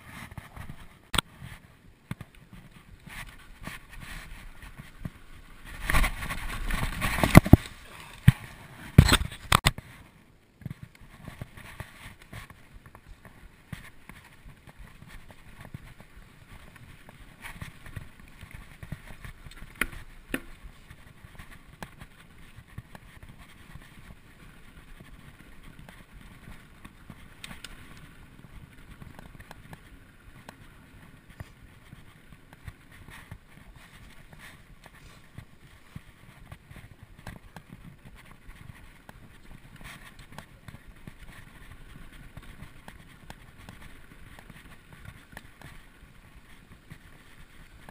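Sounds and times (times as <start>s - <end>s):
bike rattles and clicks: 0.0s - 47.9s
bike tyres on dirt: 0.0s - 47.9s.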